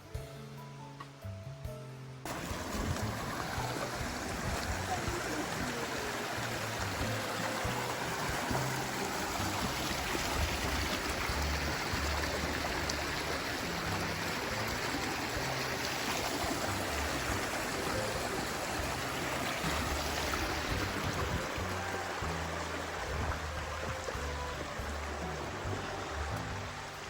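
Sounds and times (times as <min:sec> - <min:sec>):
background music with bass line: 0:00.0 - 0:27.0
rushing stream-like noise: 0:02.3 - 0:27.0.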